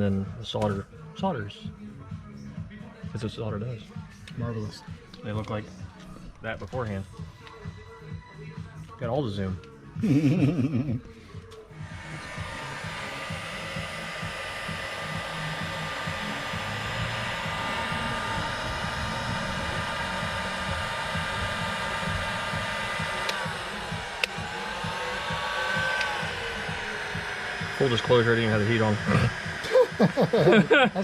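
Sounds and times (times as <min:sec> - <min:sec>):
heat gun fan whining: 0:02.9 - 0:31.0.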